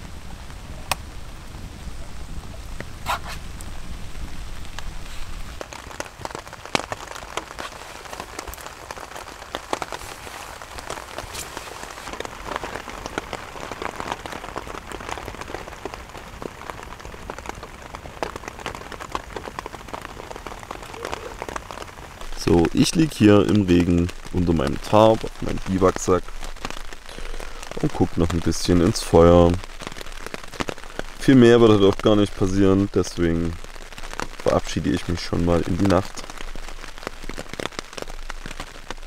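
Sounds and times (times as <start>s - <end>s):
rain pattering on a tarp: 0.0s - 39.0s.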